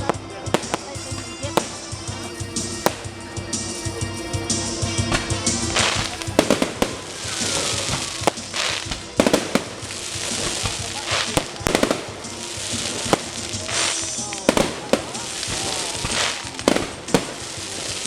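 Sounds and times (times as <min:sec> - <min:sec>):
background music: 0:00.0 - 0:18.0
fireworks bangs: 0:00.0 - 0:18.0
fireworks crackling hiss: 0:00.0 - 0:18.0.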